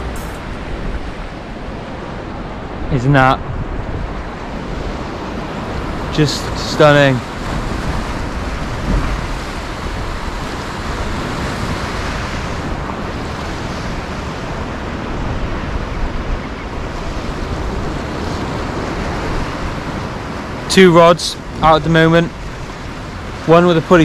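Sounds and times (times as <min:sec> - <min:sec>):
wind on microphone: 0:00.0 - 0:20.7
sea surf washing on shore: 0:00.0 - 0:24.0.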